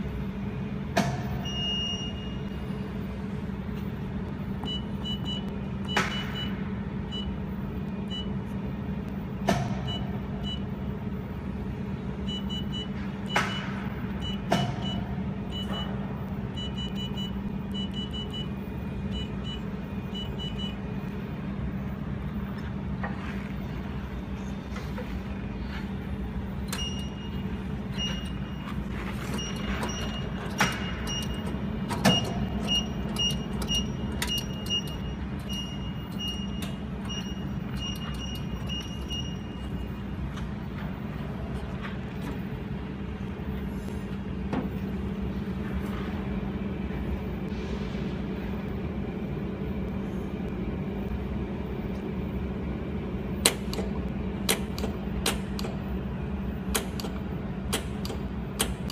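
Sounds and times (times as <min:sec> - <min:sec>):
machine low hum: 0:00.0 - 0:58.9.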